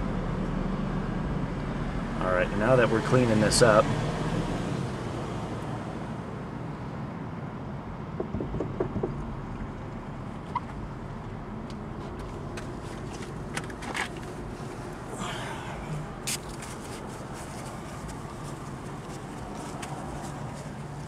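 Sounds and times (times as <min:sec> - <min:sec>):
low traffic hum: 0:00.0 - 0:21.0.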